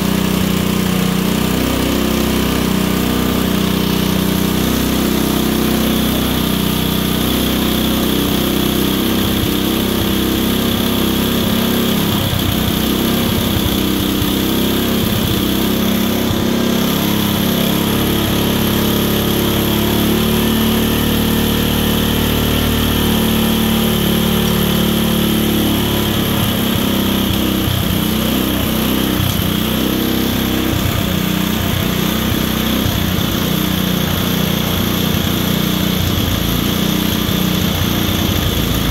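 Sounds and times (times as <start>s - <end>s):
small generator engine running: 0.0s - 38.9s.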